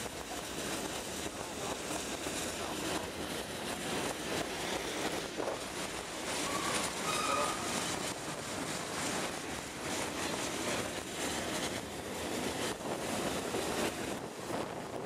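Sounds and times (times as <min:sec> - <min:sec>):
train carriage rolling on track: 0:00.0 - 0:15.0.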